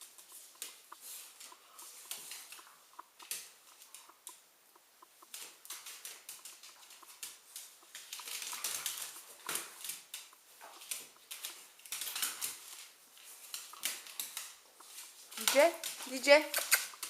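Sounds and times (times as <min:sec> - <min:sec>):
dogs scuffling: 0:00.0 - 0:04.4, 0:05.0 - 0:17.0.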